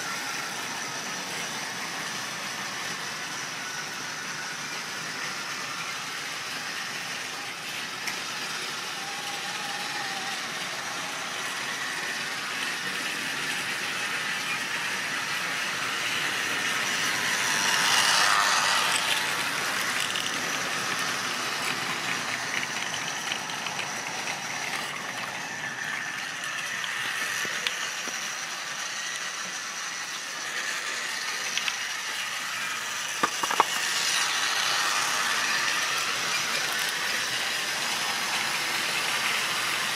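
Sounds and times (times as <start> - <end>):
model train wheels rattling: 4.4 - 39.9.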